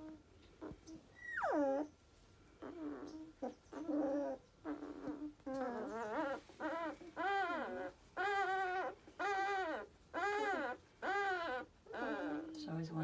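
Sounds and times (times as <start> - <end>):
puppies whimpering and squeaking: 0.0 - 13.0.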